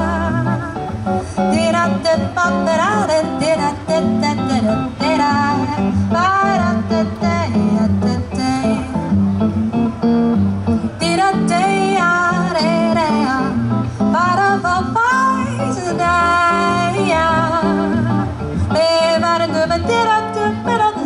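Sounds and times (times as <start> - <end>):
guitar chords: 0.0 - 21.0.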